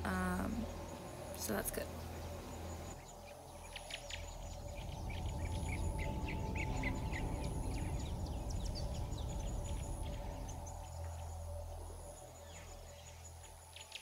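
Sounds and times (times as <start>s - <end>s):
steady low rumble: 0.0s - 13.8s
birds chirping: 0.0s - 14.0s.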